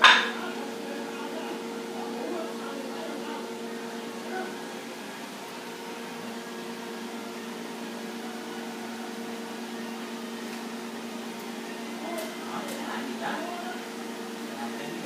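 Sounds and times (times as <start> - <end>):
household appliance humming: 0.0 - 15.0.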